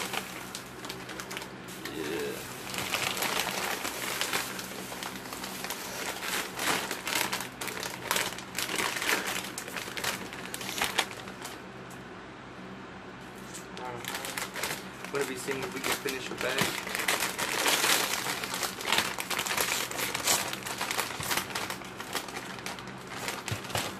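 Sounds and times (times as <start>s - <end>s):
chip bags being opened: 0.0s - 11.6s, 13.5s - 23.9s
plastic bag crinkling: 0.0s - 11.6s, 13.8s - 23.9s.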